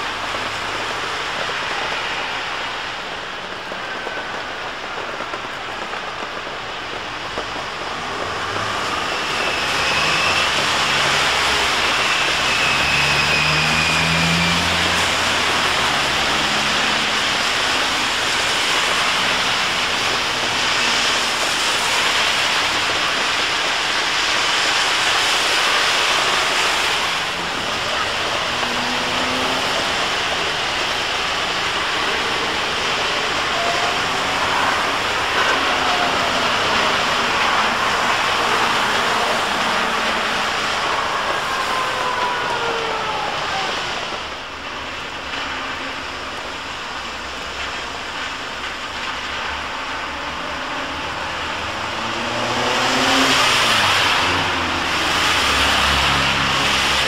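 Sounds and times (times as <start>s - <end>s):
heavy rain hiss: 0.0s - 57.0s
trolleybus whine: 0.0s - 57.0s
wet road spray: 0.0s - 57.0s.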